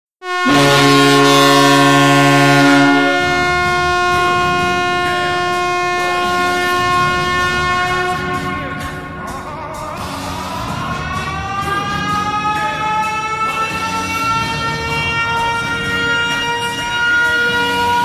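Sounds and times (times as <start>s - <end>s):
air horn blast: 0.2s - 9.4s, 11.2s - 18.0s.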